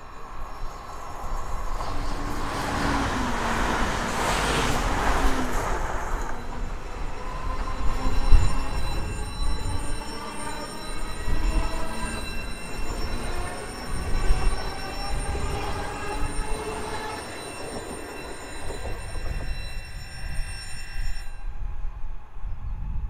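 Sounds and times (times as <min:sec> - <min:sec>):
wheels rumbling on rail: 0:00.0 - 0:23.0
high-pitched tones: 0:00.6 - 0:21.6.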